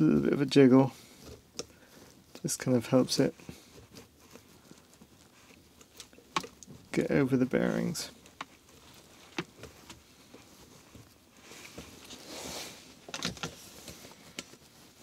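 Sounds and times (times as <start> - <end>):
soft rustle: 0.0 - 15.0.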